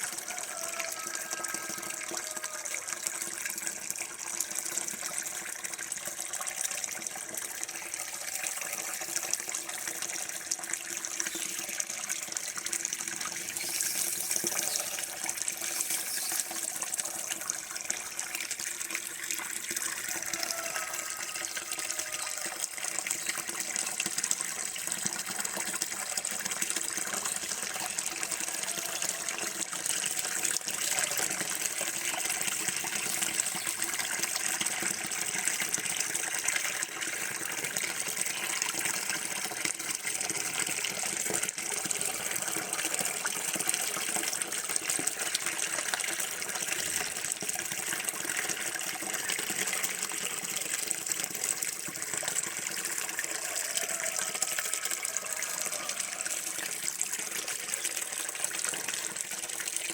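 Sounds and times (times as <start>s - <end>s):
running water gushing: 0.0s - 59.9s.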